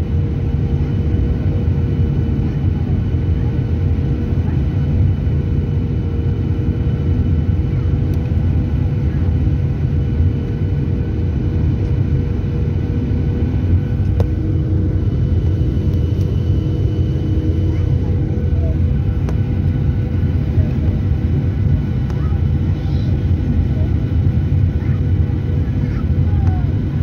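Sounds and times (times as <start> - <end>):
airliner cabin rumble: 0.0 - 27.0
steady engine whine: 0.0 - 27.0.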